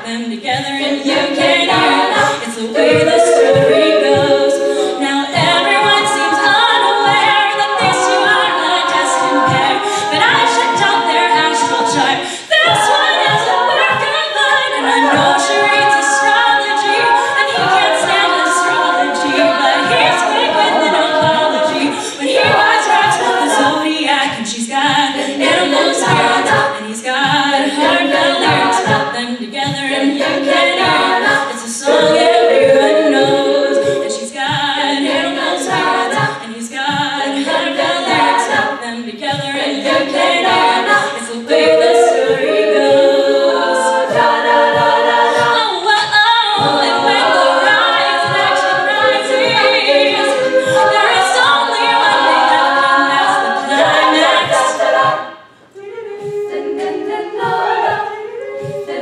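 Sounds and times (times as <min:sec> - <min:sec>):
beatboxed vocal percussion: 0:00.0 - 0:59.0
lead voice singing: 0:00.0 - 0:59.0
women singing in close harmony: 0:00.0 - 0:59.0.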